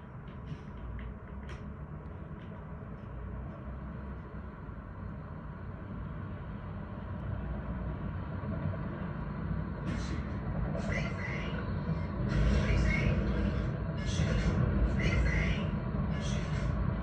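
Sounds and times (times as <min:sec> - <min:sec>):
low rumble of vehicles: 0:00.0 - 0:17.0.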